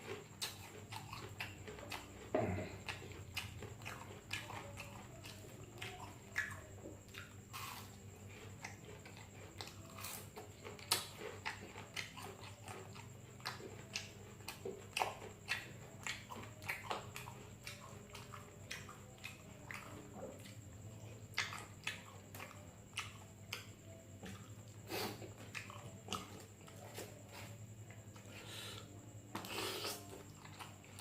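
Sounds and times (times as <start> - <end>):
wet chewing and lip smacking: 0.0 - 31.0.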